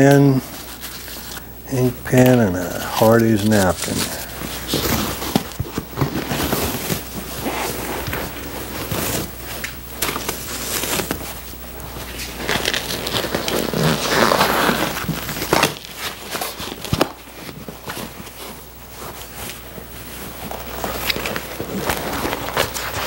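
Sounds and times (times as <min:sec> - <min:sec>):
foam and upholstery tearing: 0:02.6 - 0:23.0.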